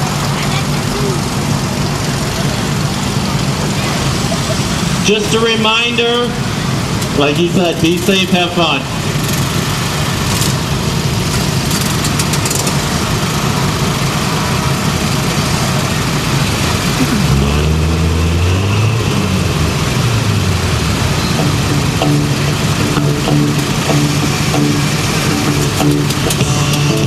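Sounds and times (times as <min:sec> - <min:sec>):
lawn mower engines idling: 0:00.0 - 0:27.0.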